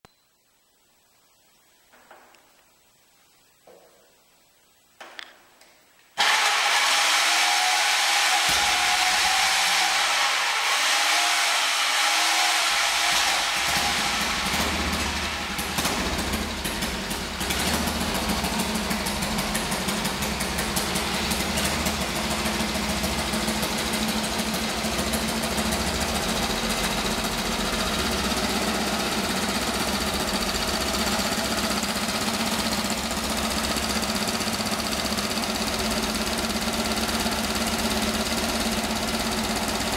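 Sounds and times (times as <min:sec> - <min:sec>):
electric roller starter: 0:06.2 - 0:39.9
single-cylinder motorcycle engine running: 0:06.2 - 0:39.9.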